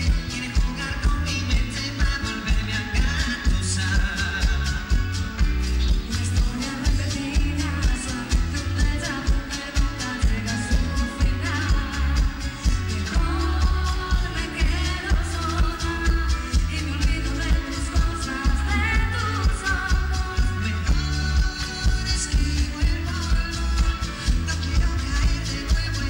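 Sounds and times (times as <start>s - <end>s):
keyboards: 0.0s - 26.0s
person singing: 0.0s - 26.0s.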